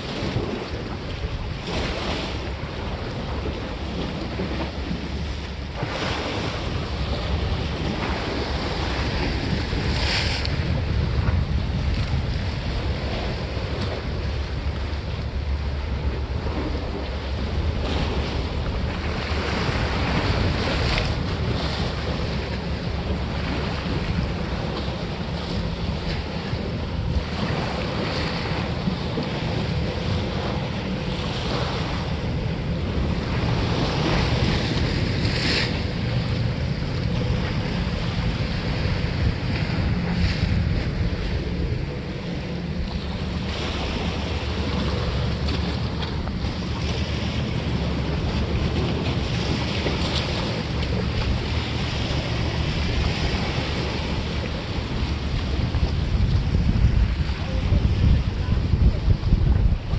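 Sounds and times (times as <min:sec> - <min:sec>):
sea waves against stone blocks: 0:00.0 - 0:59.9
water splashes: 0:00.0 - 0:59.9
wind buffeting microphone: 0:00.0 - 0:59.9.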